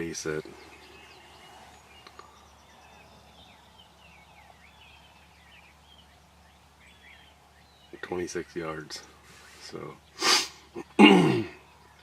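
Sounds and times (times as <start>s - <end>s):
faint distant bird calls: 0.0s - 12.0s.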